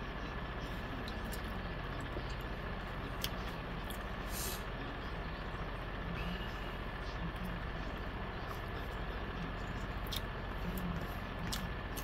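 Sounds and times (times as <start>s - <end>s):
steady rumbling background noise: 0.0s - 12.0s.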